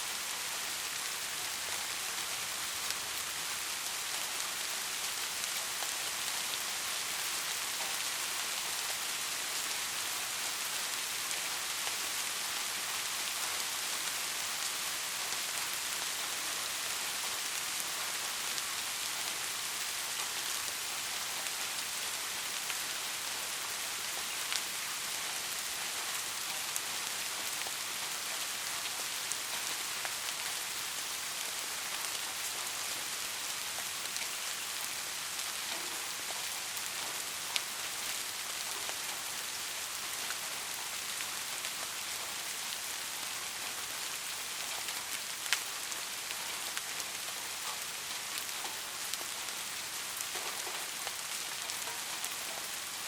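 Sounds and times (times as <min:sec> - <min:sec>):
rain falling: 0:00.0 - 0:53.0.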